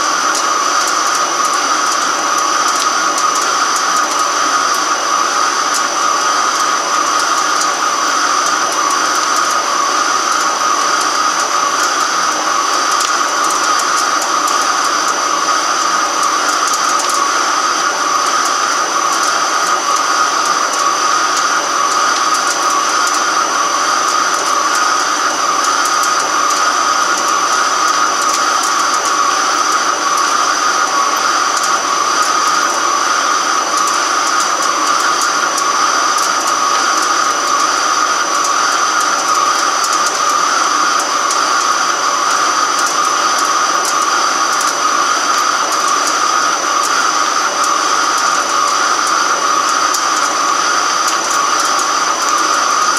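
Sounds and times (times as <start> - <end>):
lathe cutting steel: 0.0 - 52.9.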